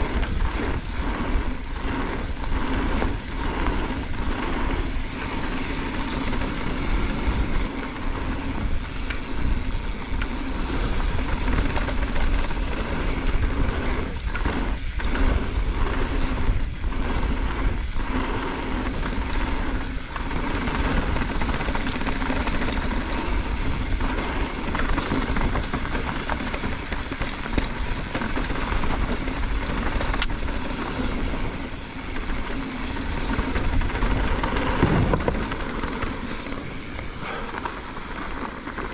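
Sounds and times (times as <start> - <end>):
bike rattling: 0.0 - 38.9
tyres rumbling on dirt: 0.0 - 38.9
wind rush on microphone: 0.0 - 38.9.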